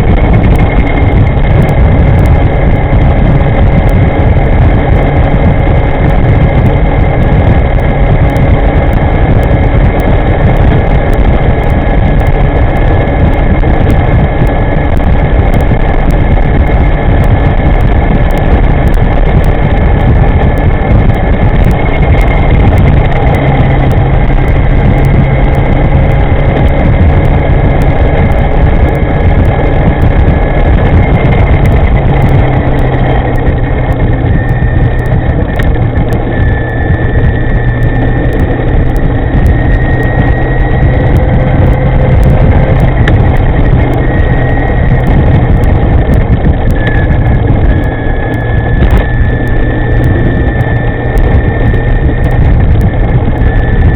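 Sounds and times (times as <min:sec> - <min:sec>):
faint whining tones: 0:00.0 - 0:53.9
scooter road noise: 0:00.0 - 0:53.9
wind rumble on microphone: 0:00.0 - 0:53.9.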